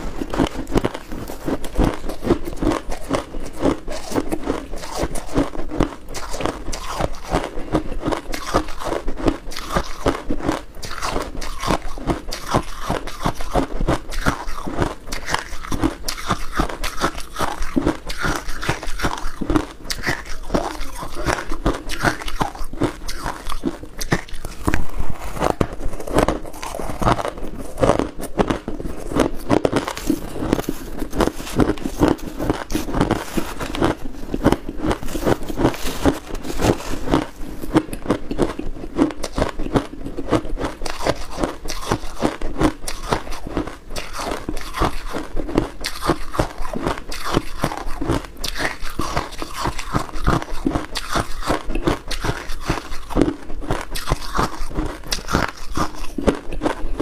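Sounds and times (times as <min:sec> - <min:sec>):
ice crunching between teeth: 0:00.0 - 0:57.0.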